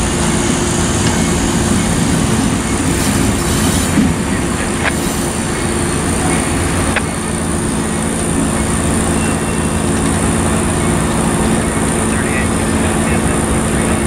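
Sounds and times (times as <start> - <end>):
diesel locomotives passing: 0.0 - 14.0.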